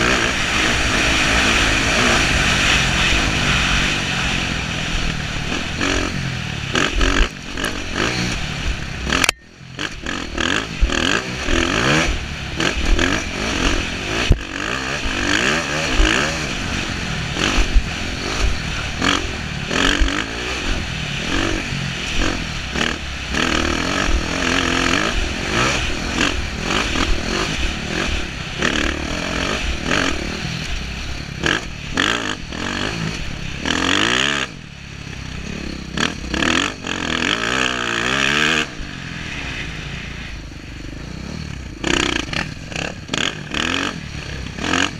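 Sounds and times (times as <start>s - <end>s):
dirt bike engine revving: 0.0s - 44.9s
wind rushing over microphone: 0.0s - 44.9s.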